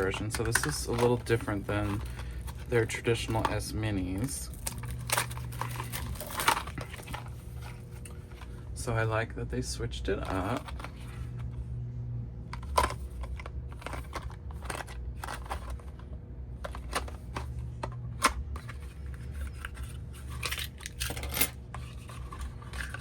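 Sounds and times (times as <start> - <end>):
packaging clicks and rustles: 0.0 - 8.7, 10.1 - 11.5, 12.5 - 23.0.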